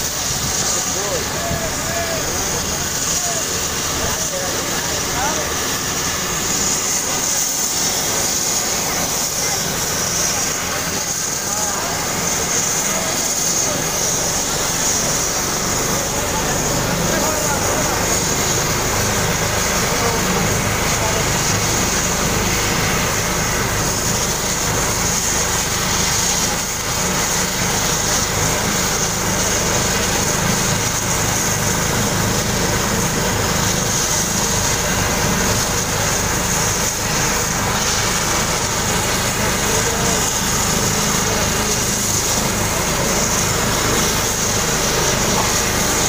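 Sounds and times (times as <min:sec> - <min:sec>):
helicopter engine and rotor hum: 0:00.0 - 0:46.0
helicopter turbine whine: 0:00.0 - 0:46.0.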